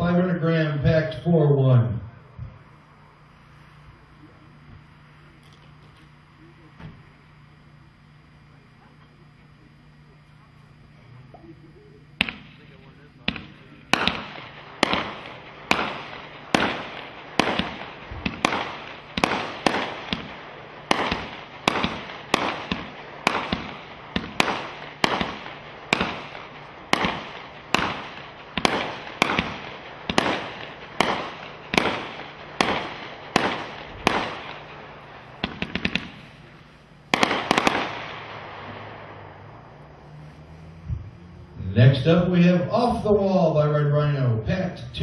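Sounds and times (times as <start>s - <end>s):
fireworks bangs: 0.0s - 43.4s.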